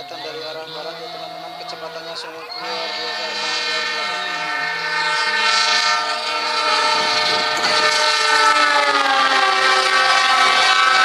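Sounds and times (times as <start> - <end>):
locomotive horn blast: 0.0 - 11.0
train wheels and cars passing: 0.0 - 11.0.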